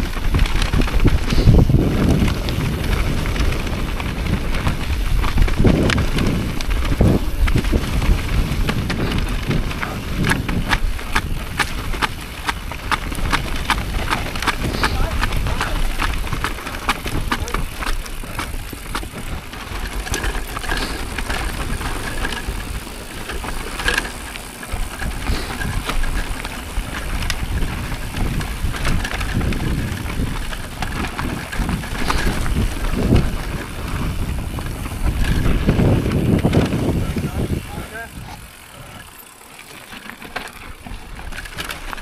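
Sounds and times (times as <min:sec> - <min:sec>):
wind rumbling on microphone: 0:00.0 - 0:39.1
bike rattling and knocking: 0:00.0 - 0:42.0
bike tyres crunching over dirt: 0:00.0 - 0:42.0.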